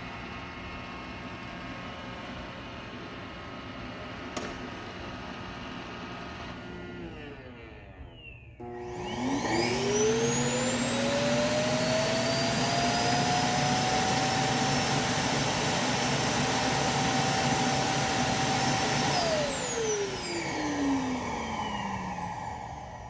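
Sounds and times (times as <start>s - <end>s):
vacuum motor whine: 0.0s - 23.0s.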